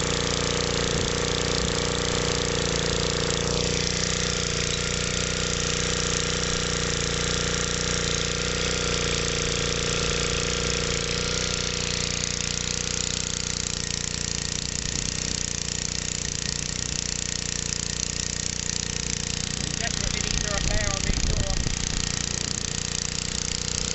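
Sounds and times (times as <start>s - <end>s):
single-cylinder engine idling: 0.0s - 23.9s.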